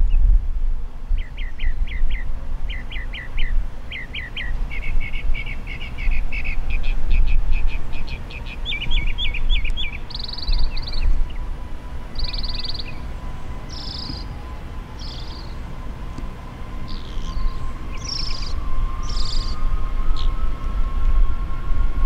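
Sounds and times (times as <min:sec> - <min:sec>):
steady low rumble: 0:00.0 - 0:22.0
songbird singing: 0:01.1 - 0:21.4.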